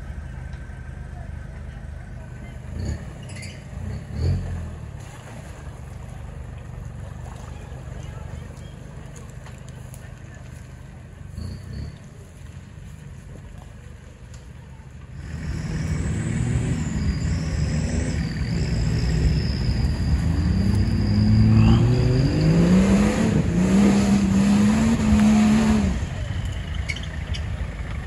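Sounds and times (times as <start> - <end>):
off-road vehicle engine revving: 0.0 - 13.0, 15.0 - 28.0.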